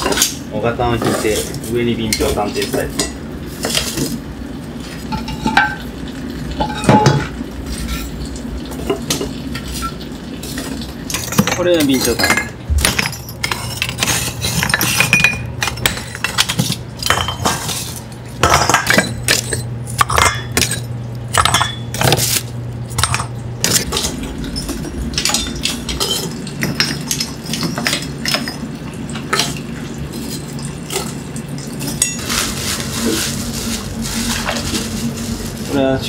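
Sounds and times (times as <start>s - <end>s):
charcoal sticks clinking: 6.5s - 35.9s.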